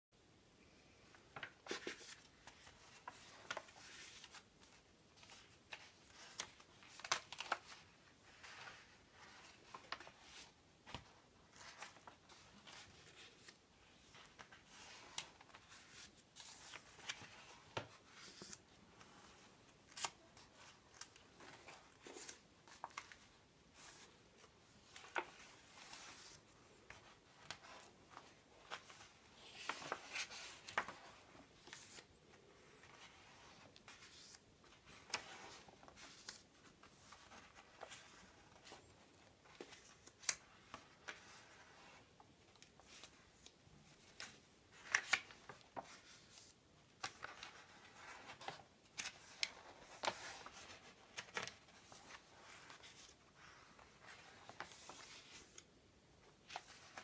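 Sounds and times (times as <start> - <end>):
paper pages turning: 1.4 - 55.7, 56.4 - 57.0.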